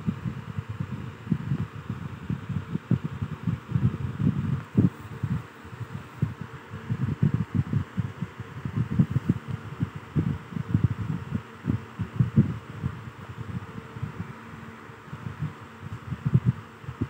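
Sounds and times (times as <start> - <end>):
low thumping and rumble: 0.0 - 17.0.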